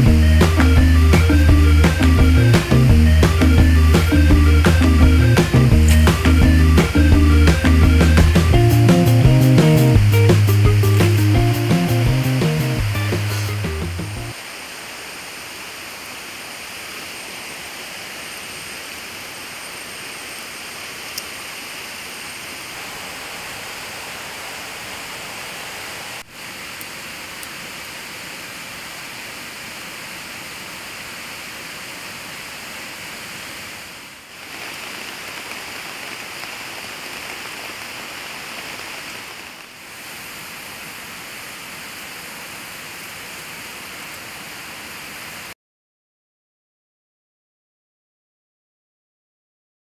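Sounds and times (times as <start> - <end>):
stream water rushing: 0.0 - 45.6.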